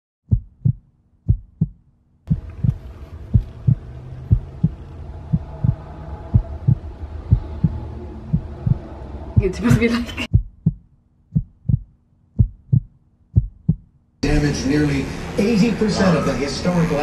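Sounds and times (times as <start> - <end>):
heartbeat thuds: 0.2 - 14.0.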